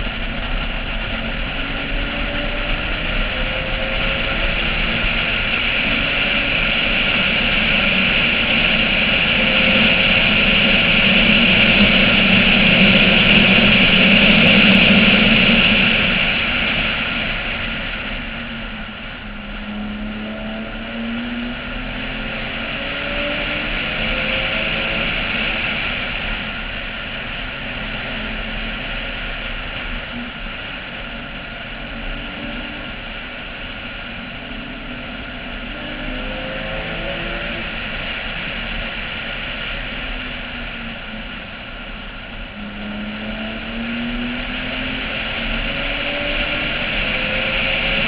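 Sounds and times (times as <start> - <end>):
car engine accelerating and shifting: 0.0 - 48.0
wind noise: 0.0 - 48.0.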